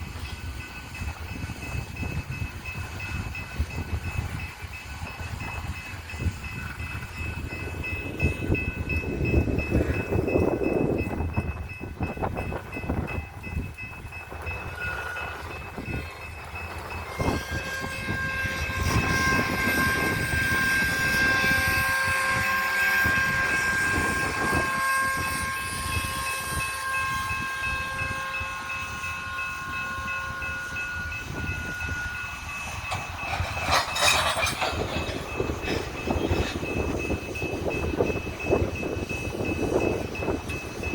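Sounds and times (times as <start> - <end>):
freight train rolling on rails: 0.0 - 40.9
steady high-pitched tone: 0.2 - 34.1.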